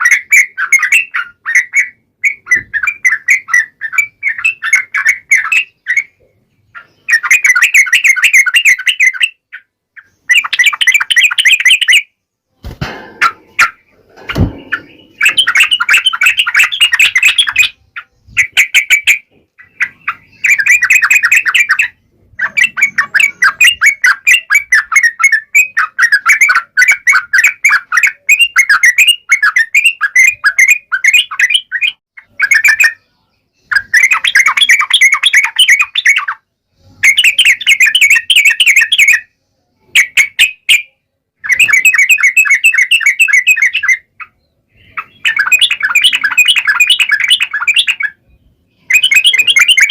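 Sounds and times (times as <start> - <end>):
bulbul chattering song: 0.0 - 49.9.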